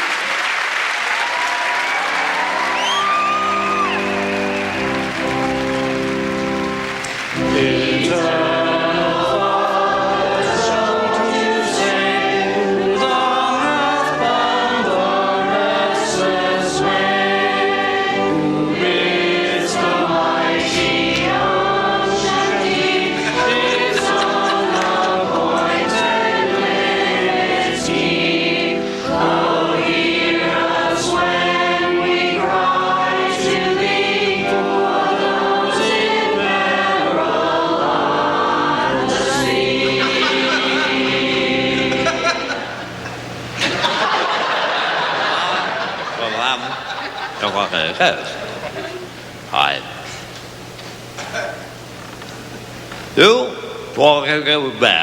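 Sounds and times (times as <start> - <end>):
choir singing a hymn: 2.5 - 49.2.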